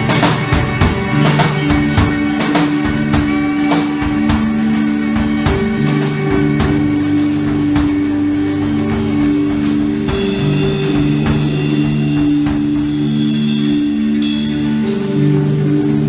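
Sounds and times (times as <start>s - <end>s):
drum hits: 0.0s - 15.2s
guitar: 0.0s - 16.0s
live band playing: 0.0s - 16.0s.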